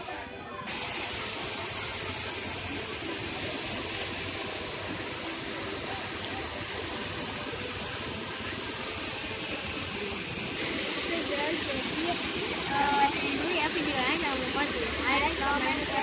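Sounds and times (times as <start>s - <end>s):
water rushing over rocks: 1.5s - 16.0s.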